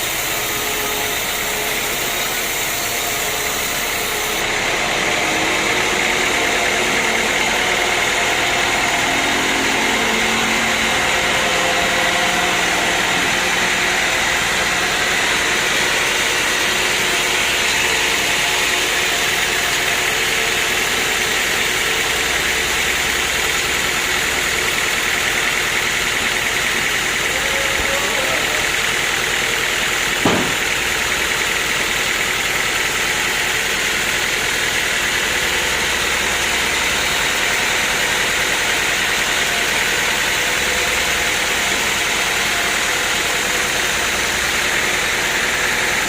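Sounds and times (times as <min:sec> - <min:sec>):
sawmill machinery running: 0:00.0 - 0:46.0.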